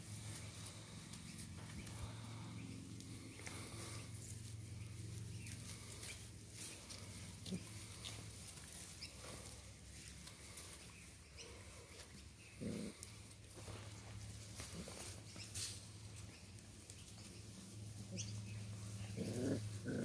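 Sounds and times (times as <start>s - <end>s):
puppies scuffling in grass: 0.0s - 20.0s.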